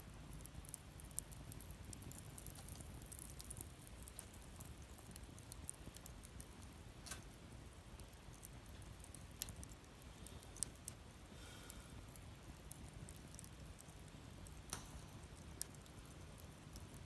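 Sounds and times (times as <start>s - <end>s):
wood fire crackling: 0.0s - 17.0s
fire pops: 0.4s - 17.0s.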